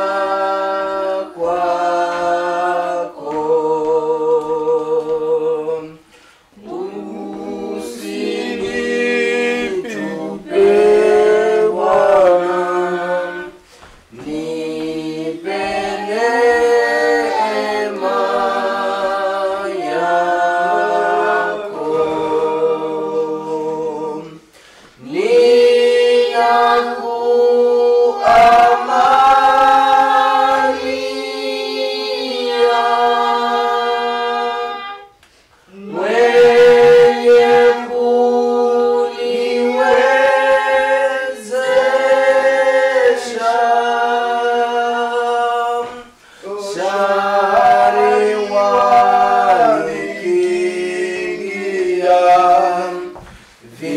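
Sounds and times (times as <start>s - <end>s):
group singing a hymn unaccompanied: 0.0s - 53.9s.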